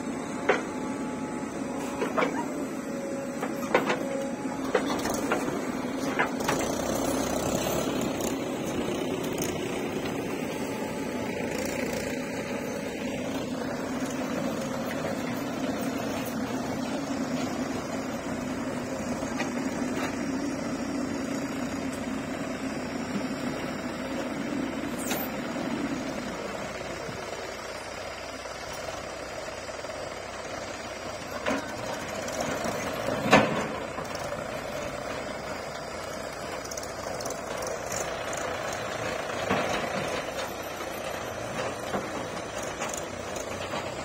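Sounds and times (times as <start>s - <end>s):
diesel engines running under load: 0.0s - 44.0s.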